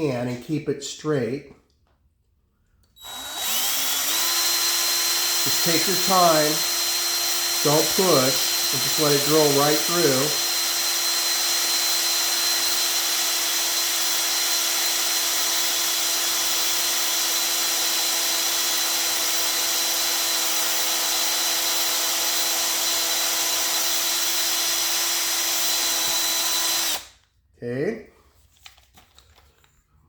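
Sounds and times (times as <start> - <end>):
electric drill running: 3.0 - 27.2.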